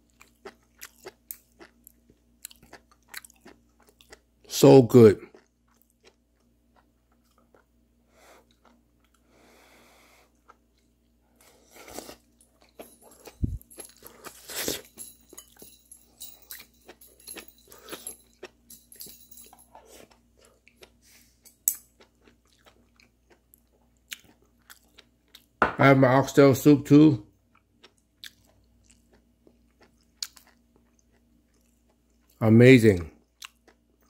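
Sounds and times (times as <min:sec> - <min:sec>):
person chewing: 0:00.0 - 0:04.5, 0:05.2 - 0:25.6, 0:27.4 - 0:32.4, 0:33.2 - 0:34.0.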